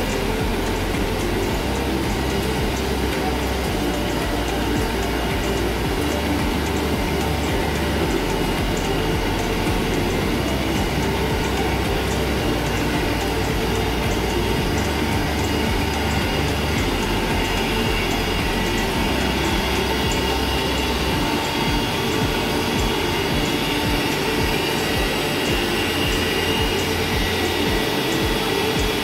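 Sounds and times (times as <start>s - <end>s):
light regular ticking: 0.0s - 29.0s
machinery rumble and hum: 0.0s - 29.0s.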